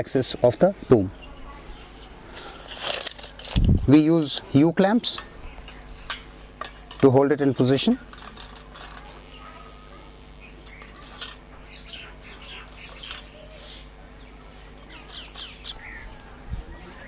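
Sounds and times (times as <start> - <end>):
small birds chirping: 0.0 - 2.5, 4.4 - 8.1, 9.0 - 17.0.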